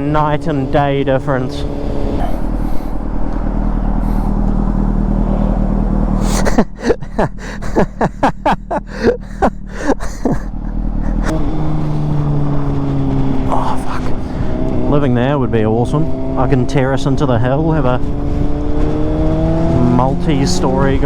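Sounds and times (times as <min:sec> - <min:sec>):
exhaust crackles and pops: 0:00.0 - 0:21.0
motorcycle engine running: 0:00.0 - 0:21.0.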